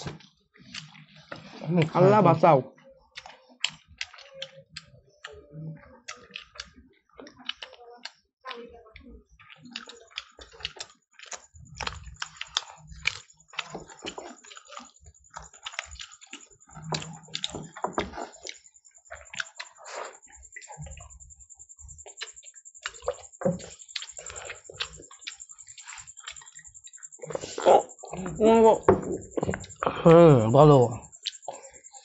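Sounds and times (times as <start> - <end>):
wet chewing: 0.0 - 2.3, 3.0 - 30.3, 30.9 - 32.0.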